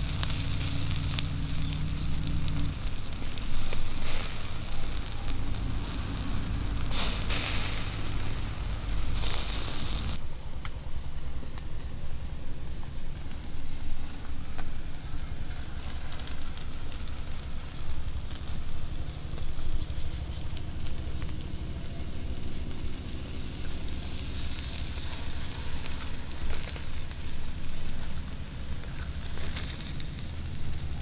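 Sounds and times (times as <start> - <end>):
fish sizzling on a grill: 0.0 - 10.2, 11.9 - 31.0
steady low rumble: 0.0 - 31.0.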